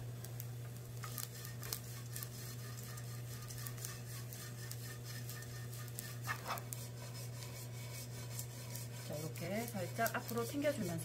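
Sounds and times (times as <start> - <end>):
steady low hum: 0.0 - 11.0
spatula stirring in frying pan: 0.7 - 11.0.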